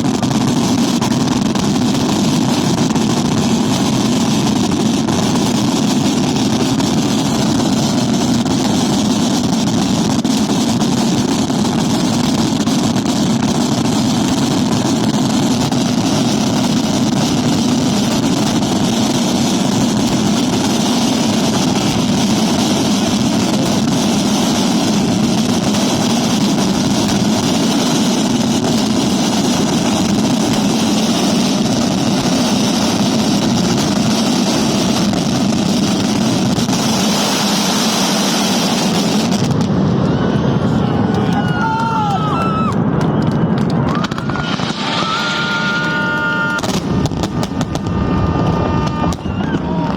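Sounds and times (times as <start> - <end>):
fireworks barrage: 0.0 - 49.9.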